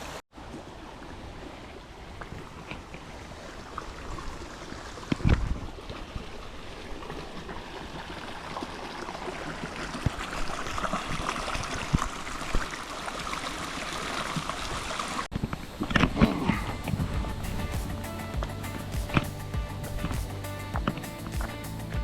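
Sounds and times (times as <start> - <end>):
water flowing over rocks: 0.0 - 22.0.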